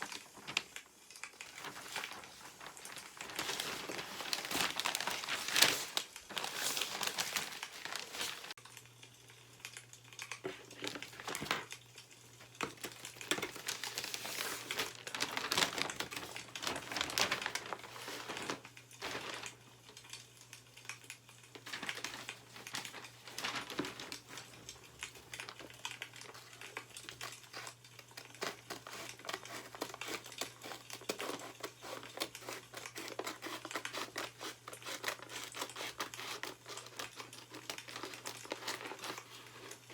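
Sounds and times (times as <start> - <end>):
newspaper pages rustling: 0.0 - 8.6, 10.4 - 11.7, 12.4 - 39.9.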